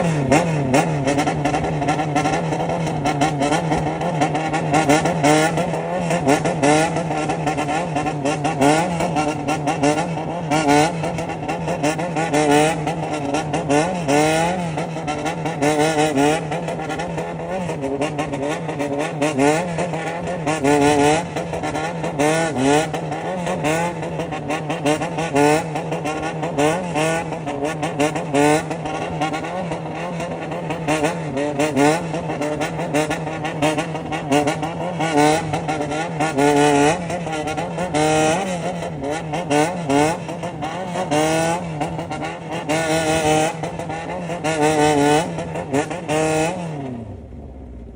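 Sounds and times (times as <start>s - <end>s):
motorcycle engine throttle blipping: 0.0s - 47.9s.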